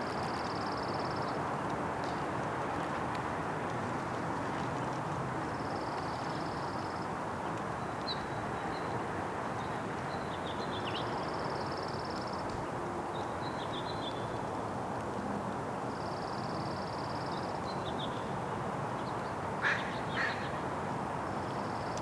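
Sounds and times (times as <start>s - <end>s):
distant traffic rumble: 0.0s - 21.8s.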